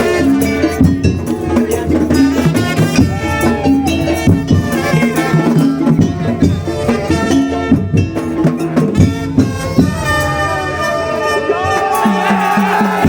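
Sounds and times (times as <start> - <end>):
drums and small percussion: 0.0 - 13.0
pitched melody line: 0.0 - 13.0.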